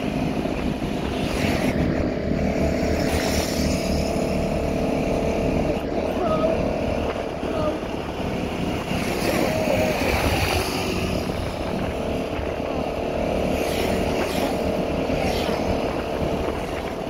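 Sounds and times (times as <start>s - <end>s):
motorcycle engine running: 0.0s - 17.0s
motorcycles passing: 0.0s - 17.0s
road and wind noise: 0.0s - 17.0s.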